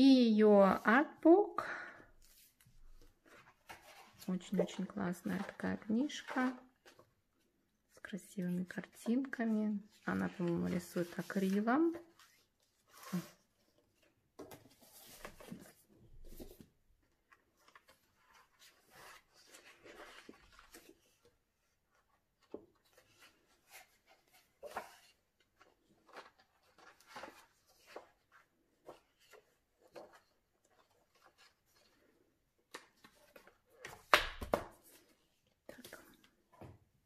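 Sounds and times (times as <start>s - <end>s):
book pages turning: 2.2s - 7.1s, 9.0s - 36.7s.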